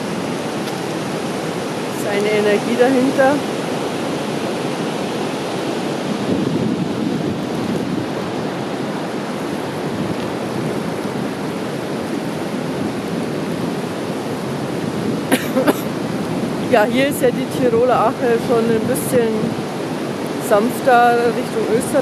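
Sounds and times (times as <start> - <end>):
river rushing over weir: 0.0 - 22.0.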